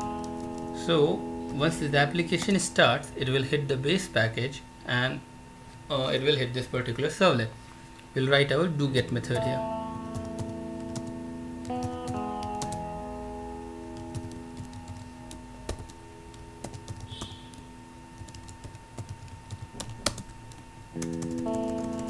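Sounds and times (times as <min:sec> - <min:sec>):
quiet background music: 0:00.0 - 0:07.5, 0:08.1 - 0:22.0.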